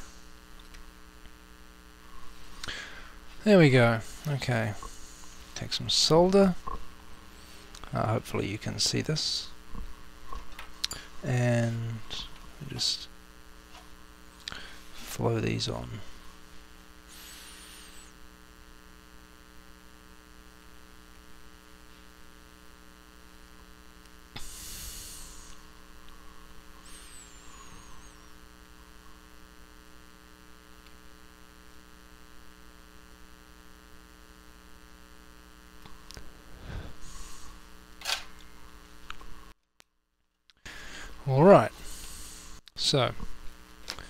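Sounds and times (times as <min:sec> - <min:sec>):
soldering iron sizzling: 0:00.0 - 0:39.6, 0:40.7 - 0:44.0
electrical mains hum: 0:00.0 - 0:44.0.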